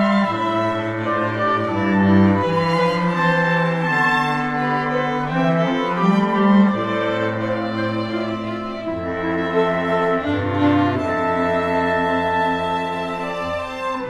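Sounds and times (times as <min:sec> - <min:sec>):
cello holding low line: 0:00.0 - 0:14.0
chamber ensemble playing slow chords: 0:00.0 - 0:14.0.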